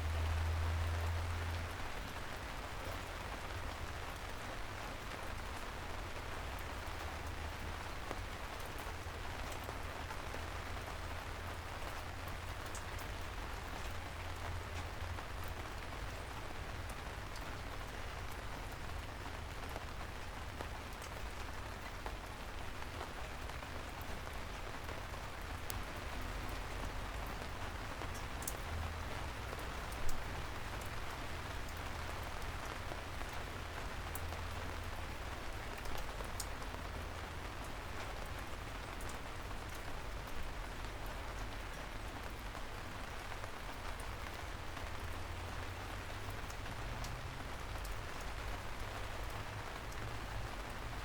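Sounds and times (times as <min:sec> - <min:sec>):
gentle rain falling: 0:00.0 - 0:51.0.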